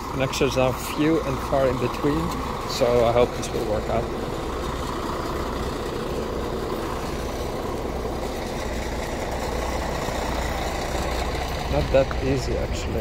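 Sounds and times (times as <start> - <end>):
diesel railcar engine idling: 0.0 - 13.0.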